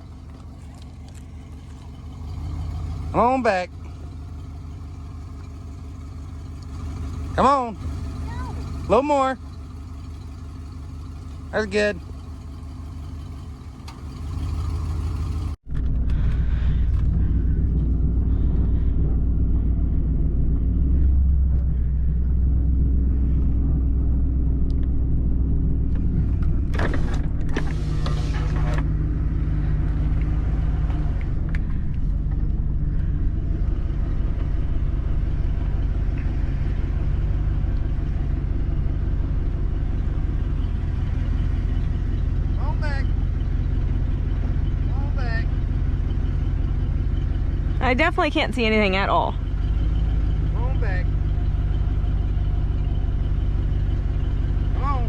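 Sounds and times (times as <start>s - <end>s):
truck engine low rumble: 0.0s - 55.0s.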